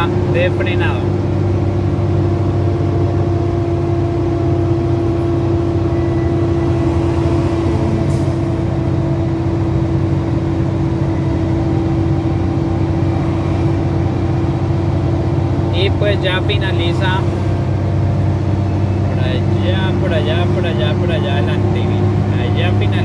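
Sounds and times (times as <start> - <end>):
diesel truck engine drone: 0.0 - 23.0
road noise: 0.0 - 23.0.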